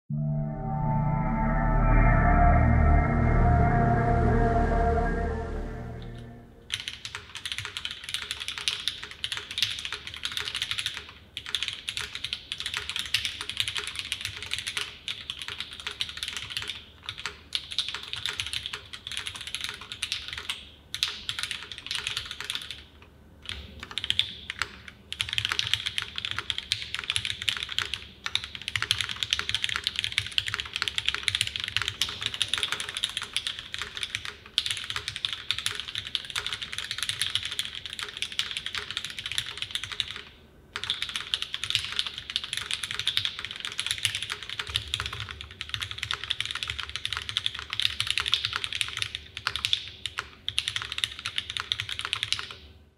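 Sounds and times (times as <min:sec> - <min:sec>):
fast typing on mechanical keyboard: 0:06.7 - 0:52.7.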